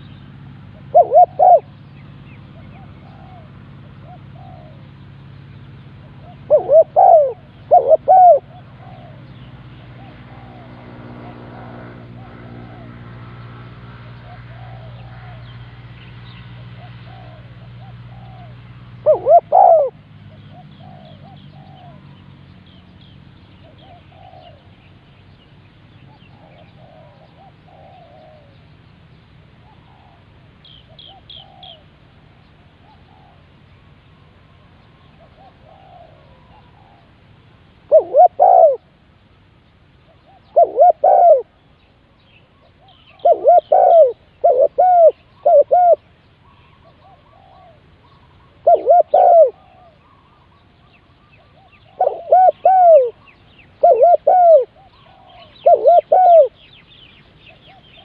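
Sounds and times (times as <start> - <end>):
doves cooing: 0.0 - 15.8, 16.4 - 22.3, 23.6 - 24.9, 26.1 - 28.7, 29.6 - 37.2, 37.8 - 39.0, 40.1 - 41.6, 42.5 - 58.0
steady low hum: 0.0 - 58.0.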